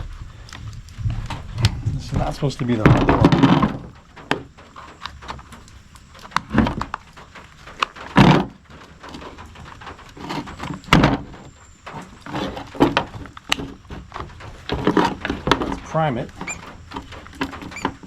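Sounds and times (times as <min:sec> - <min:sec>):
plastic parts clicking and knocking: 0:00.0 - 0:18.0.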